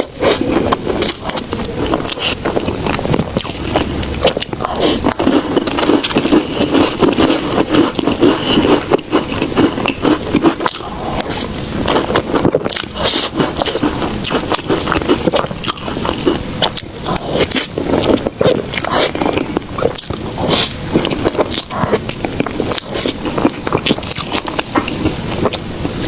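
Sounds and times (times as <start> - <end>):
chewing soft food: 0.0 - 26.0.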